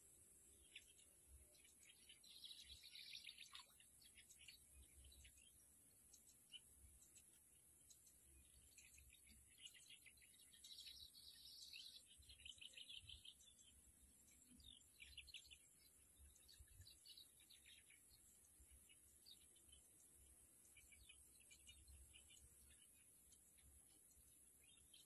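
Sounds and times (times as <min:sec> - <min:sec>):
birds twittering: 0:00.0 - 0:25.0.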